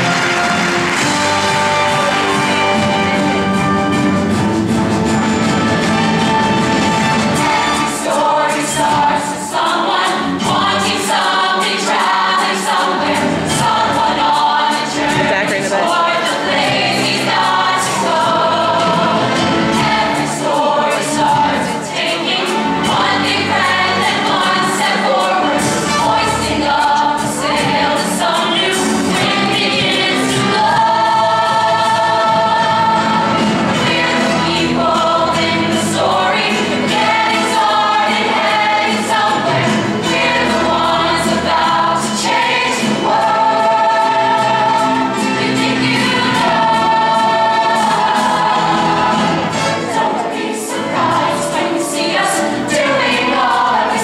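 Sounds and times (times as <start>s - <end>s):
chorus singing show tune: 6.9s - 54.0s.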